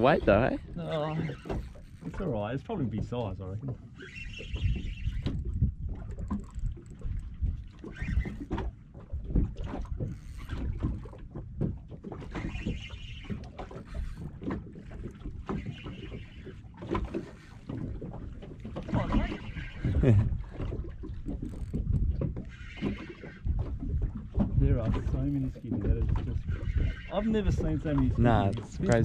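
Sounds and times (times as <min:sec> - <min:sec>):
water lapping against boat hull: 0:00.0 - 0:29.0
wind buffeting microphone: 0:00.0 - 0:29.0.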